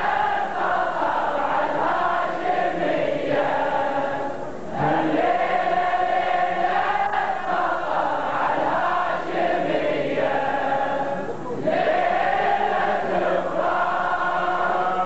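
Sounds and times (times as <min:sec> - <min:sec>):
crowd chanting a lament: 0:00.0 - 0:15.0.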